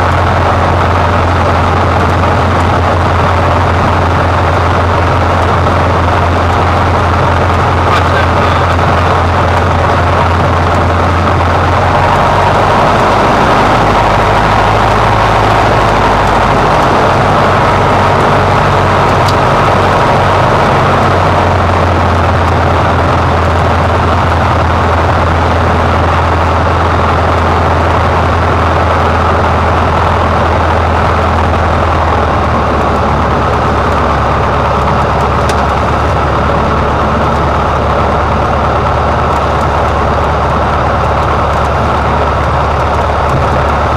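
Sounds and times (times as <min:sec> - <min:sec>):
small plane engine drone: 0:00.0 - 0:43.9.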